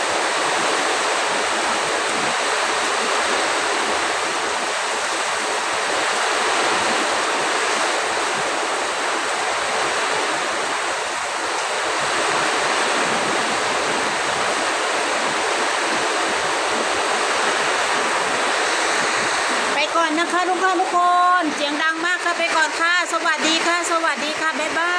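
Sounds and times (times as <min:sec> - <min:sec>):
heavy rain: 0:00.0 - 0:24.9
strong wind: 0:00.0 - 0:24.9.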